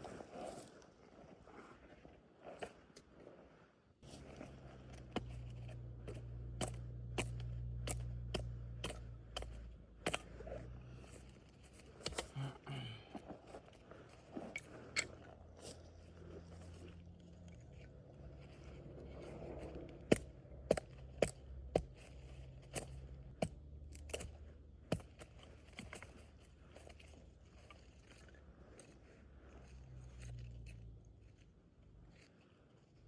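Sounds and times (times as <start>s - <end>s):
low steady rumble: 4.0s - 33.0s.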